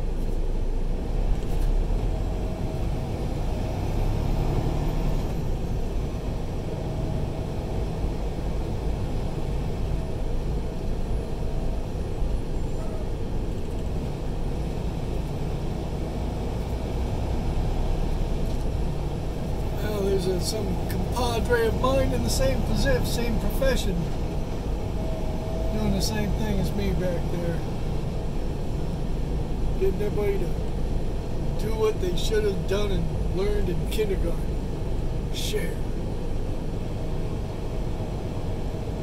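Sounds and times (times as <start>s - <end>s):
road noise inside cab: 0.0s - 39.0s
truck diesel engine rumble: 0.0s - 39.0s.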